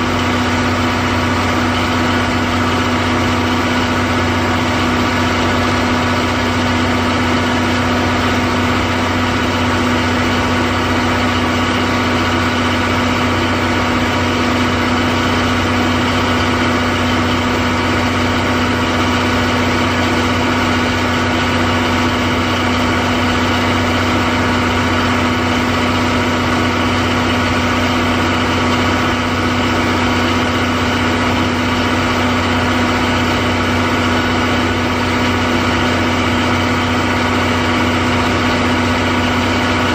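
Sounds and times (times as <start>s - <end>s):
diesel generator engine droning: 0.0s - 39.9s.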